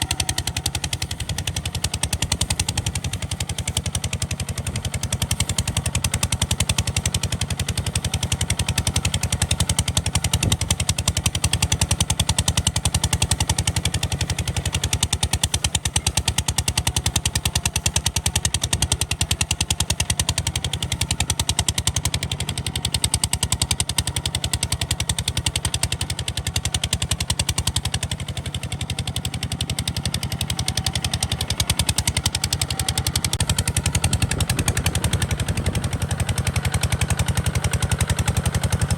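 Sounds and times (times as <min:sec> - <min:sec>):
diesel engine puttering: 0:00.0 - 0:38.9.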